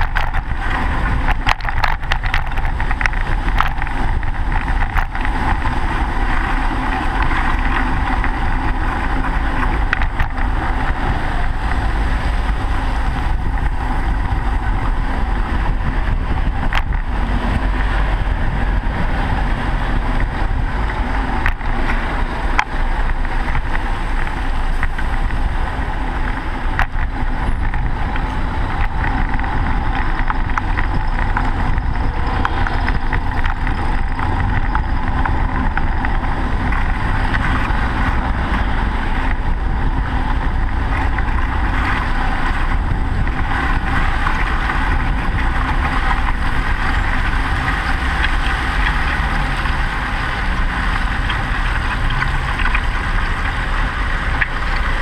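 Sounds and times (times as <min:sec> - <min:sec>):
slow car traffic: 0:00.0 - 0:55.0
wind rumble on microphone: 0:00.0 - 0:55.0.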